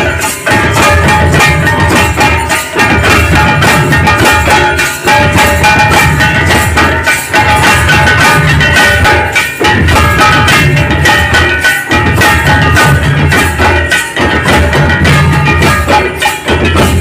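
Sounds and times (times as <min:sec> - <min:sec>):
barrel drum beaten with stick: 0:00.0 - 0:17.0
held melodic tones: 0:00.0 - 0:17.0.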